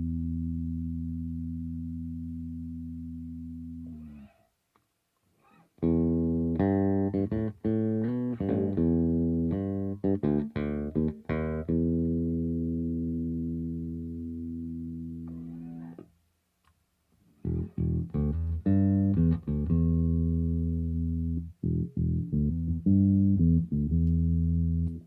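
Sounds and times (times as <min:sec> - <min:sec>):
electric bass notes: 0:00.0 - 0:04.4, 0:05.8 - 0:16.1, 0:17.4 - 0:25.0.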